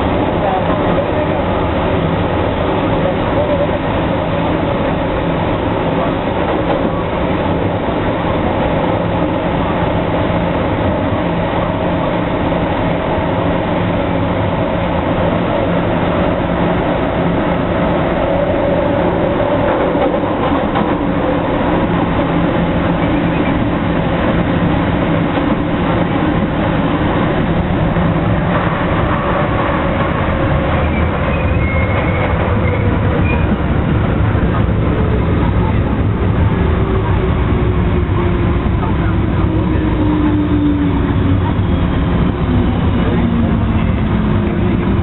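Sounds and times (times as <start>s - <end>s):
wheels rumbling on rail: 0.0s - 45.0s.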